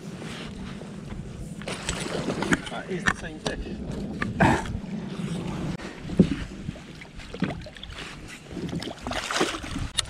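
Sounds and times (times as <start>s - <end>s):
water lapping at a boat: 0.0s - 10.0s
wind on microphone: 0.0s - 10.0s.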